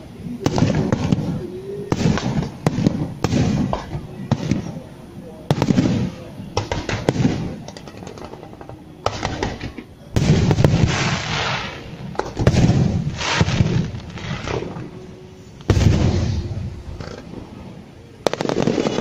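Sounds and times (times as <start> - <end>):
firework crackling: 0.0 - 19.0
firework shells booming: 0.4 - 4.8, 5.5 - 14.9, 15.6 - 17.3, 18.2 - 19.0.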